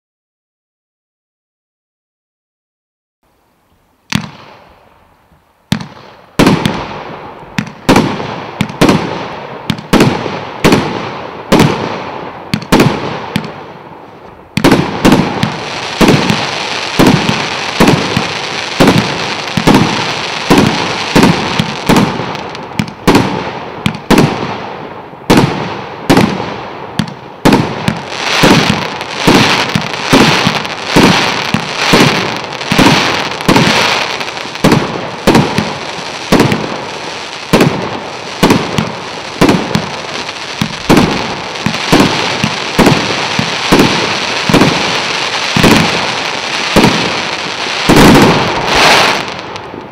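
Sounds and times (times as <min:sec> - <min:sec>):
firework crackle: 0:04.1 - 0:49.9
firework reports: 0:05.7 - 0:49.9.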